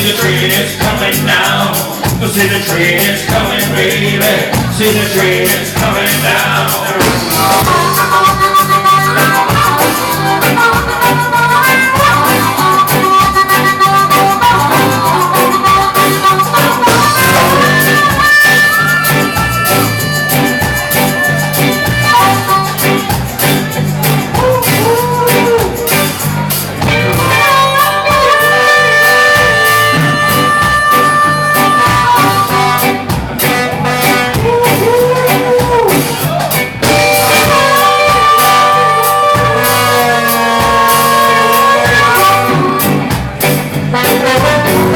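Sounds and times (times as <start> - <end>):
live band playing: 0.0 - 44.9
lead instrument long held notes: 6.3 - 36.1, 36.8 - 44.9.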